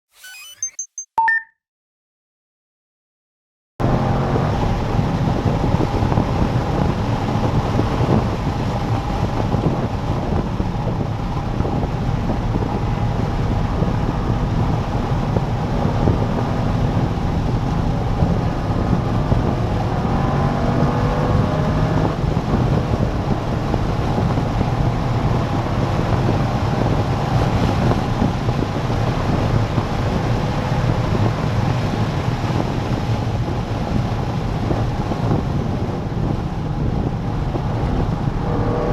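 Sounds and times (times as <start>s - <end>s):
car engine accelerating and slowing: 3.8s - 38.9s
wind and road noise: 3.8s - 38.9s.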